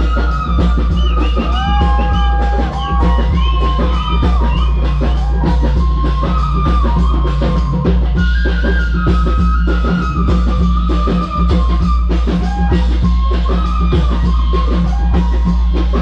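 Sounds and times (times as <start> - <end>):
deep steady bass: 0.0 - 14.5
bamboo flute melody: 0.0 - 16.0
hand drums: 0.0 - 16.0.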